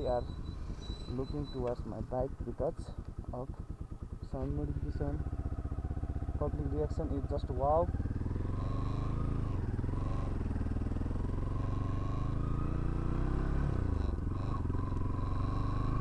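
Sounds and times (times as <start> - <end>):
motorcycle engine with loud exhaust: 0.0 - 16.0.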